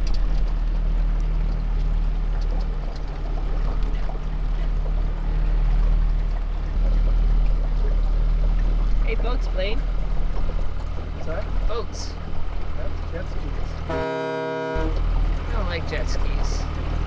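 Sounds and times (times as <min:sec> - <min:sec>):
outboard motor running: 0:00.0 - 0:17.0
water rushing along hull: 0:00.0 - 0:17.0.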